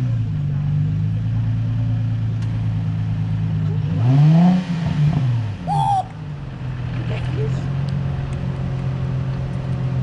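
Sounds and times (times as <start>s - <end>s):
car engine idling and revving: 0.0s - 10.0s.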